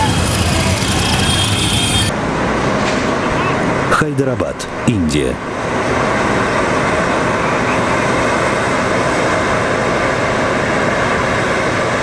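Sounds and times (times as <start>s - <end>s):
outdoor background roar: 0.0s - 12.0s.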